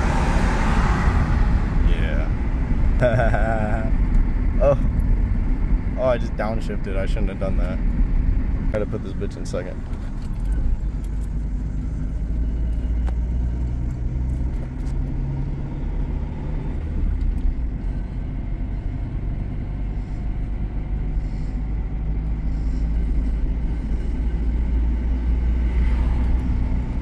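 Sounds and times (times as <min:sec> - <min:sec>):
car engine revving: 0:00.0 - 0:27.0
road rumble: 0:00.0 - 0:27.0.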